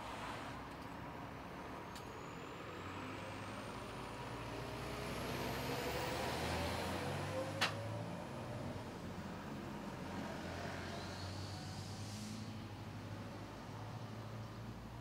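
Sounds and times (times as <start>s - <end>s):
general traffic noise: 0.0s - 15.0s
heavy truck accelerating past: 2.1s - 14.3s.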